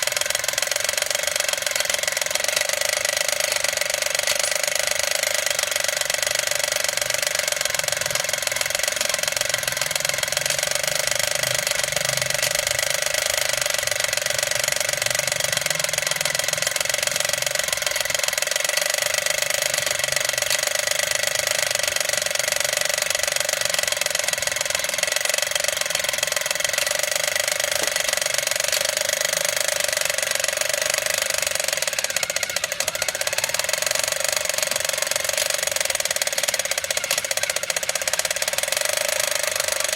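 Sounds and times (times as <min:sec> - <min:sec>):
toy motor whirring and clicking: 0:00.0 - 0:39.9.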